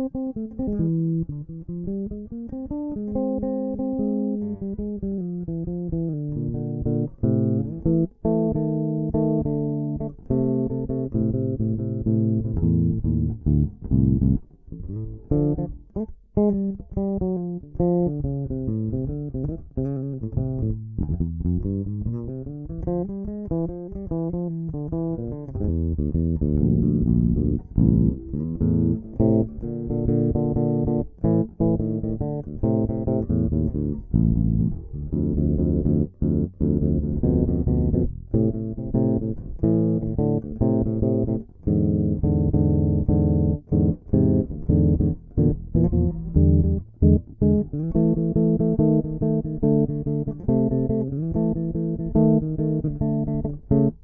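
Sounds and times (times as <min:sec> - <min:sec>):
electric bass guitar blues line: 0:00.0 - 0:54.0.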